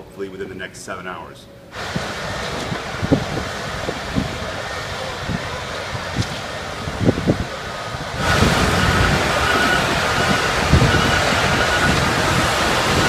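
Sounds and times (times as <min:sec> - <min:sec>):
steady rushing noise with whine: 0:00.0 - 0:13.0
construction machinery running: 0:01.8 - 0:13.0
wind gusting on microphone: 0:01.8 - 0:13.0.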